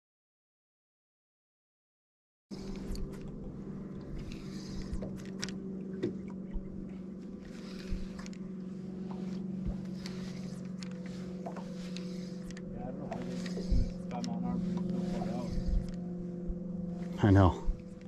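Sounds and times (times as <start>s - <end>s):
boat motor humming: 2.5s - 18.0s.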